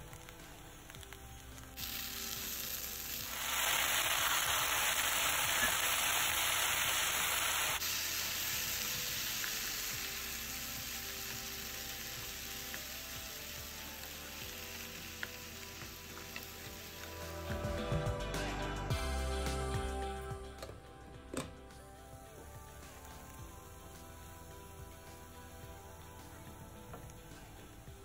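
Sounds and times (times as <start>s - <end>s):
okra sizzling in hot oil: 0.0s - 17.7s, 22.3s - 28.0s.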